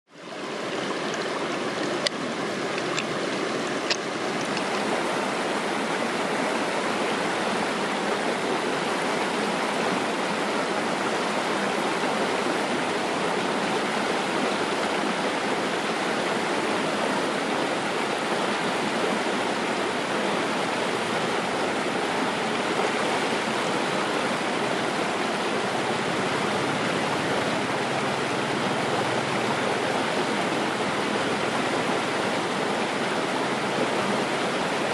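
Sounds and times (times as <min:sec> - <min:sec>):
shallow stream flowing: 0:00.1 - 0:34.9.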